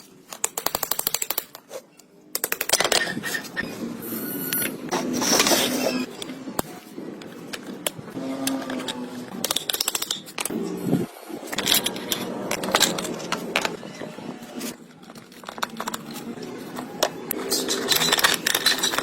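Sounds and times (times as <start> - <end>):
workshop noise: 0.0 - 19.0.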